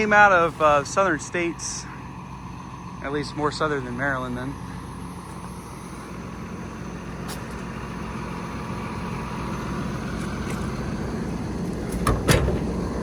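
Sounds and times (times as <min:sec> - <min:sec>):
diesel truck idling: 0:00.0 - 0:13.0.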